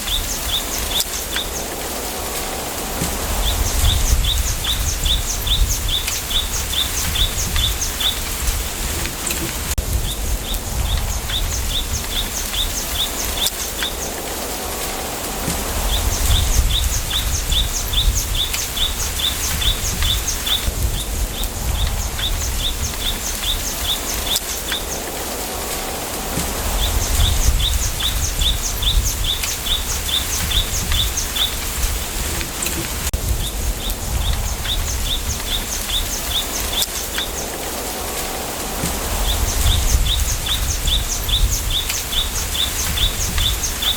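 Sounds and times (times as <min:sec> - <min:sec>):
low rumble of wind: 0:00.0 - 0:43.9
bird chirping: 0:03.3 - 0:14.3, 0:15.5 - 0:25.1, 0:26.5 - 0:32.8, 0:33.4 - 0:37.8, 0:38.7 - 0:43.9.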